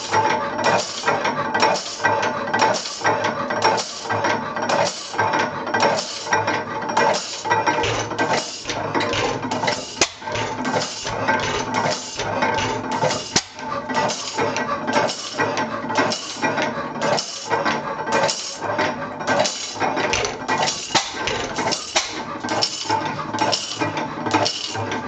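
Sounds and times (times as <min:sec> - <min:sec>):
stationary engine clattering: 0:00.0 - 0:25.0.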